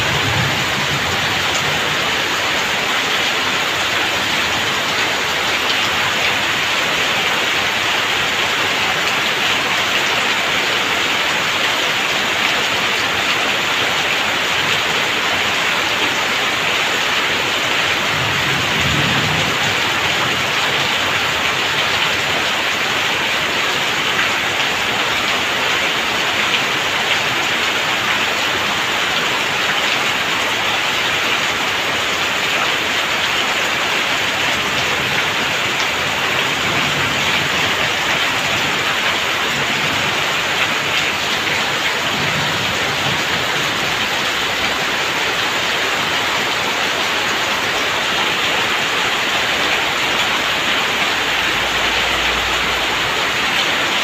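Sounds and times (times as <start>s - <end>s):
heavy rain falling: 0.0s - 54.0s
rainwater splashing on ground: 0.0s - 54.0s.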